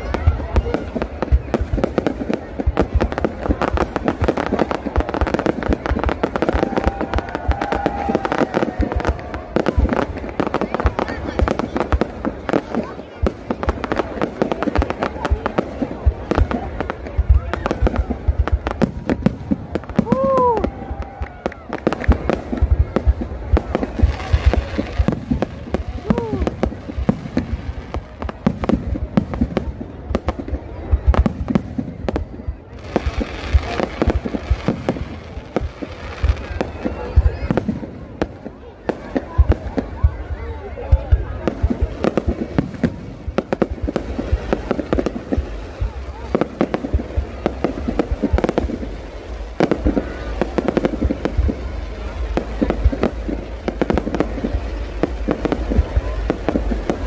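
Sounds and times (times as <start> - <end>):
fireworks exploding: 0.0 - 57.0.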